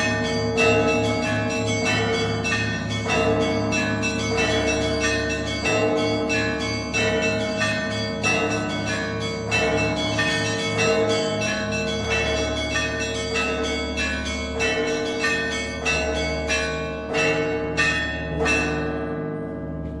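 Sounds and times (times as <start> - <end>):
church bells pealing: 0.0 - 20.0
deep hum of large bell: 0.0 - 20.0.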